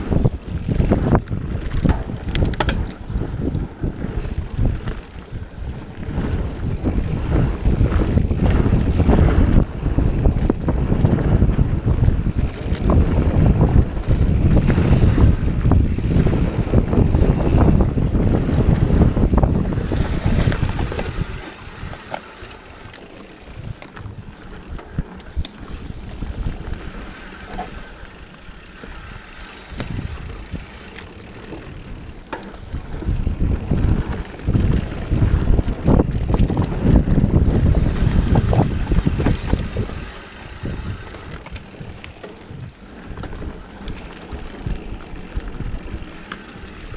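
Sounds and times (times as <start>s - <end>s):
mountain bike rumble and rattle: 0.0s - 46.9s
wind buffeting microphone: 0.0s - 46.9s.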